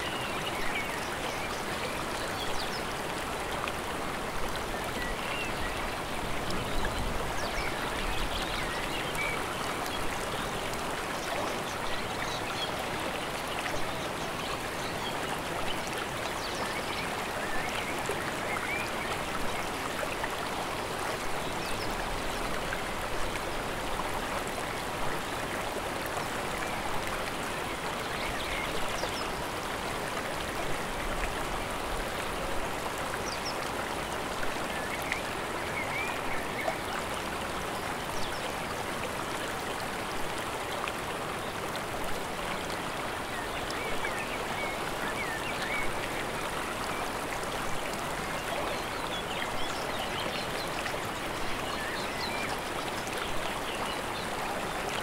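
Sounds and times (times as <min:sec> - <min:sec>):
stream and waterfall rushing: 0:00.0 - 0:55.0.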